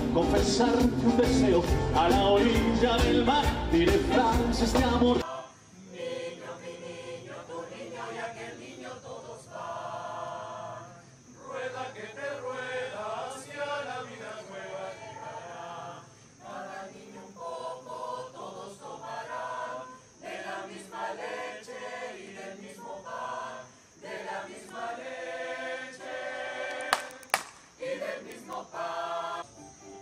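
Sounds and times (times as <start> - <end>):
mixed choir singing: 0.0 - 29.6.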